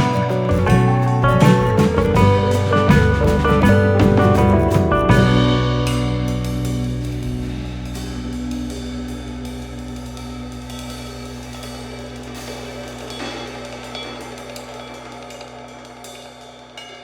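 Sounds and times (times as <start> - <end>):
drum kit and cymbals: 0.0 - 17.0.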